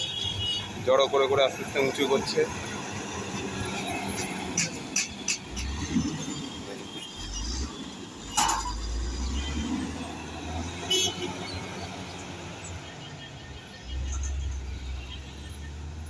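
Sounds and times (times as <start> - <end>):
heavy engines rumbling: 0.0 - 16.0
passing road traffic: 0.0 - 16.0.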